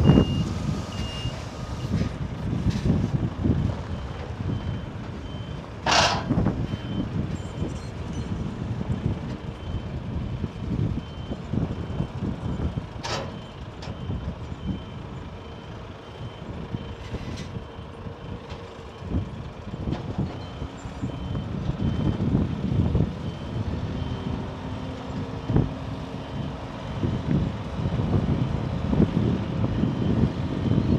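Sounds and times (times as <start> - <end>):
reversing alarm beeping: 0.0 - 2.0, 3.8 - 8.4, 9.5 - 24.8, 25.4 - 27.2, 29.7 - 30.9
diesel truck engine running: 0.0 - 30.9.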